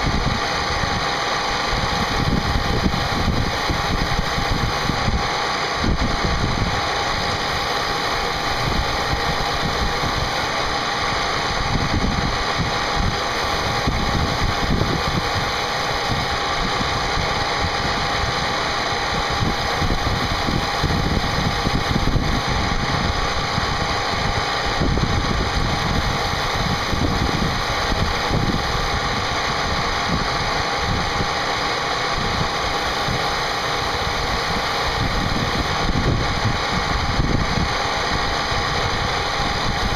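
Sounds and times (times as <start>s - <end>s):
spindle whine: 0.0s - 39.9s.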